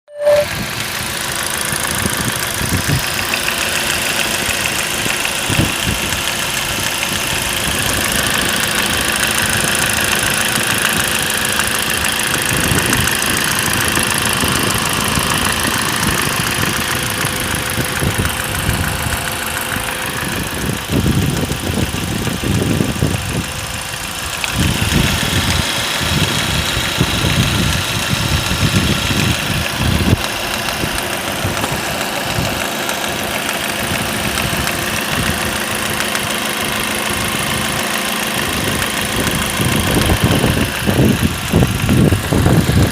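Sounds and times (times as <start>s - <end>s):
car engine idling with knock: 0.5s - 42.9s.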